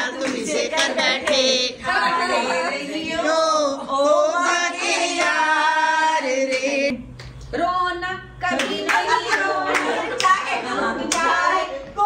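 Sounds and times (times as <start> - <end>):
women singing film song: 0.0 - 6.9, 7.5 - 12.0.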